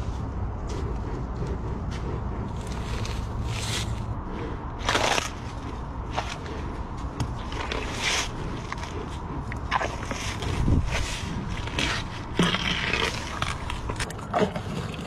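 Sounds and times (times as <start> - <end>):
rhinoceros crunching watermelon: 0.0 - 15.0
steady low rumble: 0.0 - 15.0.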